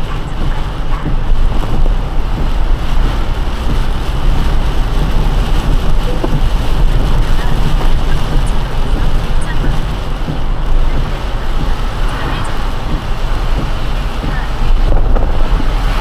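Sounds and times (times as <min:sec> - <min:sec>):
low car and road rumble: 0:00.0 - 0:16.0
tyres hissing through water: 0:00.0 - 0:16.0.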